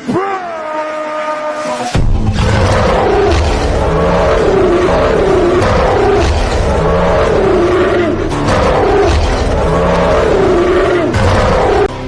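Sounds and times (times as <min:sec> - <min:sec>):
roar-like growl: 0:02.3 - 0:12.0.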